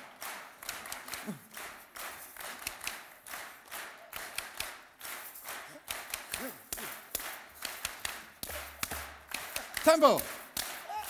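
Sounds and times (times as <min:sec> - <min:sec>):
people clapping: 0:00.0 - 0:11.0.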